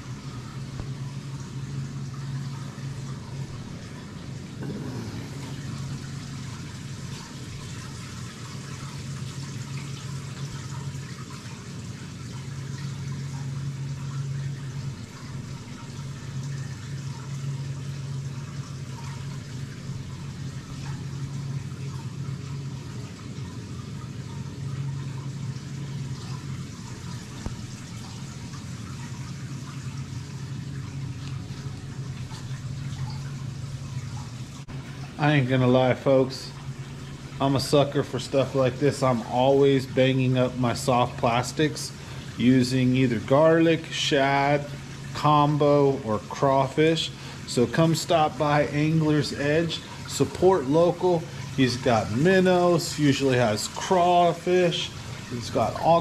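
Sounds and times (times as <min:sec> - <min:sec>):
bubbling running water: 0:00.0 - 0:56.0
low even hum: 0:00.0 - 0:56.0.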